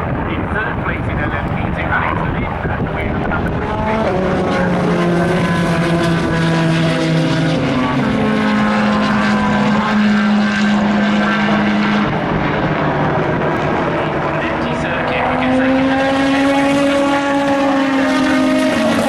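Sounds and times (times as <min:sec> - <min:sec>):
race car engines: 0:00.0 - 0:19.0.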